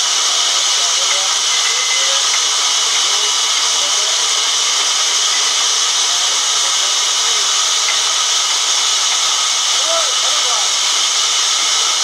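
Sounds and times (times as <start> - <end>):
band saw running: 0.0 - 12.0.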